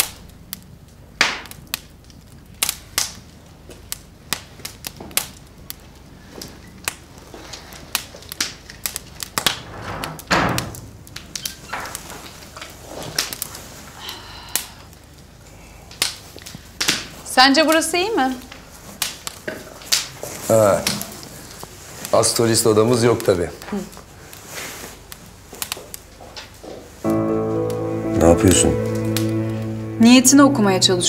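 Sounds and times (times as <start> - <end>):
wood fire crackling: 0.0 - 30.4.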